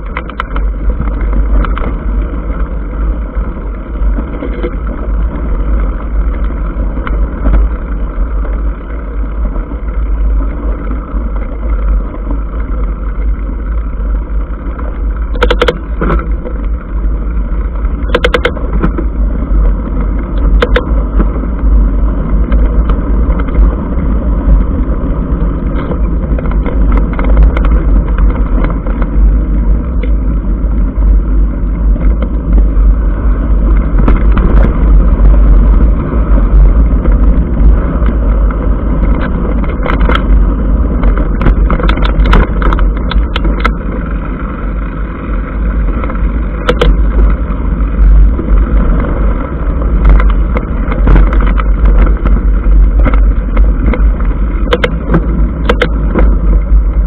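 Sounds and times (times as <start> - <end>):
bike rattling over stones: 0.0 - 57.0
bike tyres on gravel: 0.0 - 57.0
wind buffeting microphone: 0.0 - 57.0.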